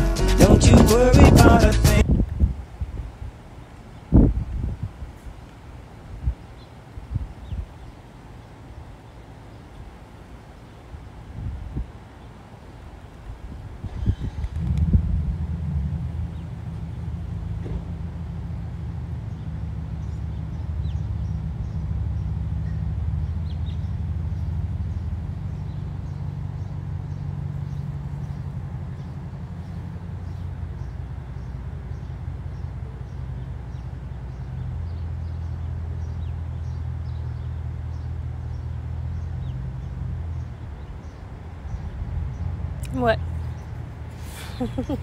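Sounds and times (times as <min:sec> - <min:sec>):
steady low rumble: 0:00.0 - 0:07.9, 0:13.2 - 0:45.0.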